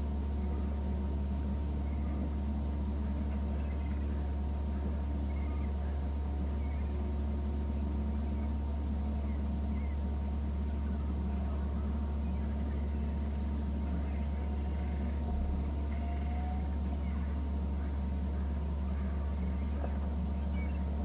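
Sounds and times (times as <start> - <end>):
low rumble and hum: 0.0 - 21.0
faint bird calls: 0.1 - 21.0.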